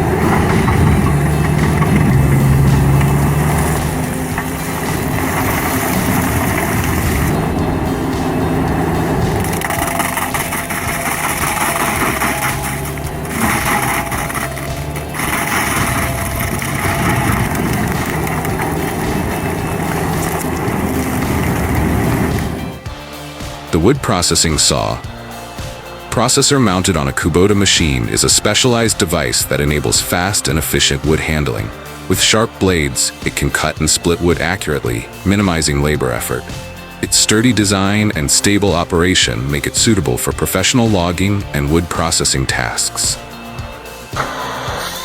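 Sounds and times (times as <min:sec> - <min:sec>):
stump grinder engine humming: 0:00.0 - 0:45.0.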